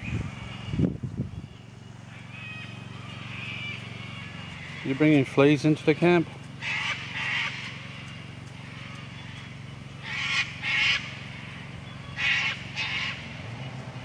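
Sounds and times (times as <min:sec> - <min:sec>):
crow cawing: 0:02.1 - 0:13.5.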